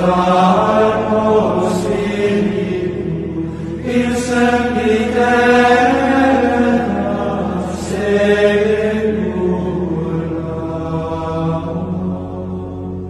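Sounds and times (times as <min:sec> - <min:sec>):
voices singing plainchant: 0:00.0 - 0:13.0.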